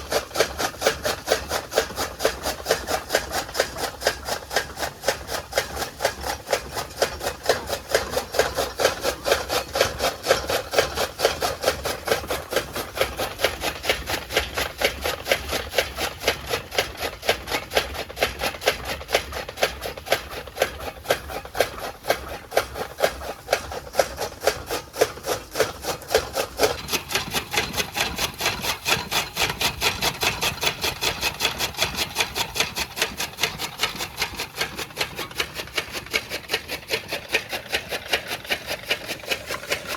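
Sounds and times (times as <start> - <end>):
chaff cutter chopping fodder: 0.0 - 39.9.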